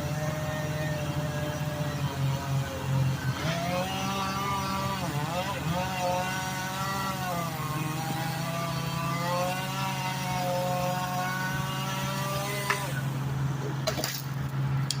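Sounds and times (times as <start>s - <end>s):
machinery engine droning: 0.0s - 15.0s.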